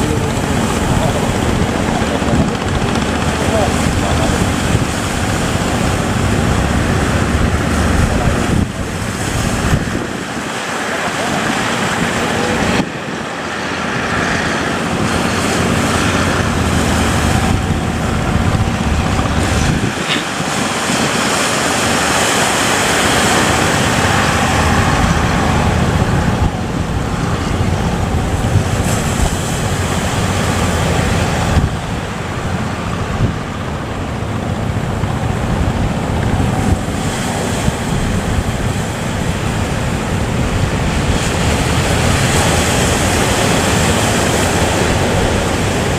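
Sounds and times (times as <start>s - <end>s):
sea waves rushing: 0.0s - 45.9s
wind buffeting microphone: 0.0s - 45.9s.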